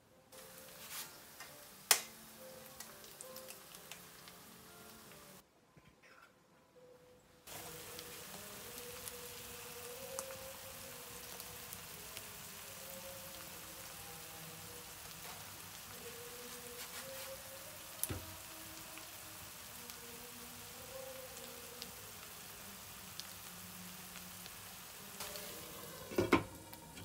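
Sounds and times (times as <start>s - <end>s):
food sizzling in a pan: 0.4s - 5.4s, 7.5s - 27.0s.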